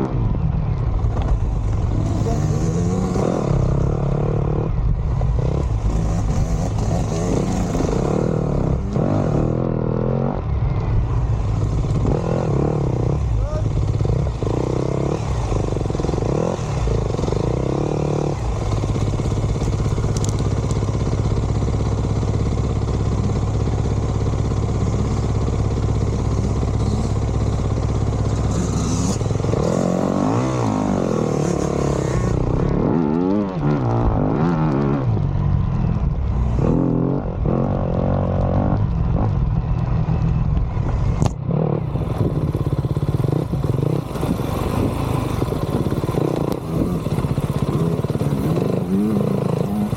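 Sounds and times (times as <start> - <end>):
dirt bike engine revving: 1.1 - 35.4, 36.3 - 39.4, 41.0 - 49.9.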